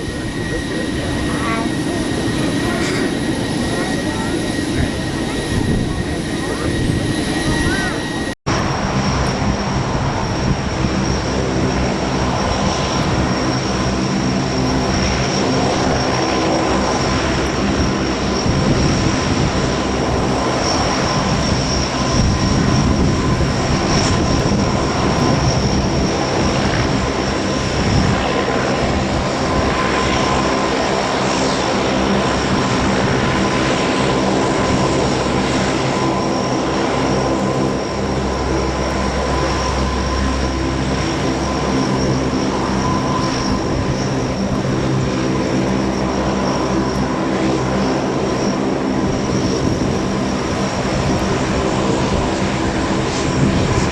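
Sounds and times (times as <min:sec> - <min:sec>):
high turbine whine: 0:00.0 - 0:53.9
propeller drone: 0:00.0 - 0:53.9.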